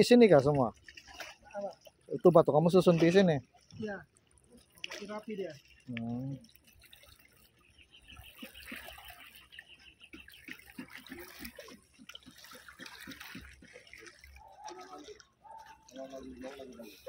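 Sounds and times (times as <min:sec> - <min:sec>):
faint water trickling and lapping: 0:00.0 - 0:17.0
water drips and splashes: 0:00.0 - 0:17.0.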